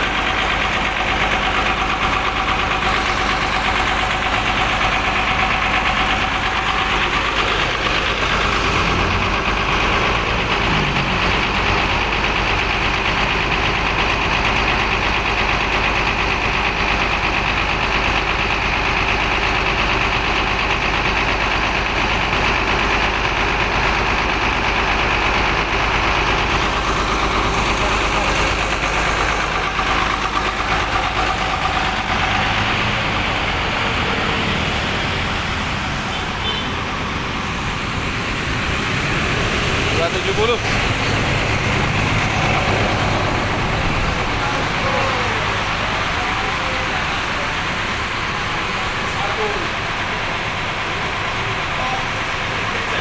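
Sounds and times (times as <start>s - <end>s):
diesel bus engine idling: 0.0s - 53.0s.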